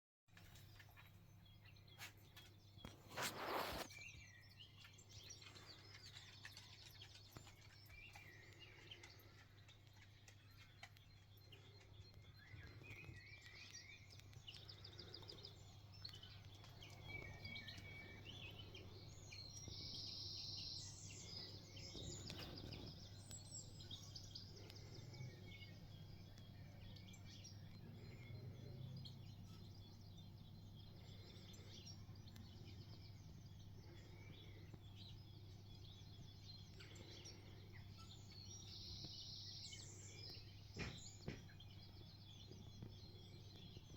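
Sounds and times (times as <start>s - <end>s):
faint birdsong: 0.3s - 43.9s.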